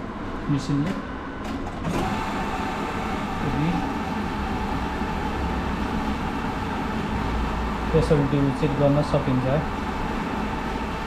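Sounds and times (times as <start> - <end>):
atm mechanism whirring: 0.0 - 11.0.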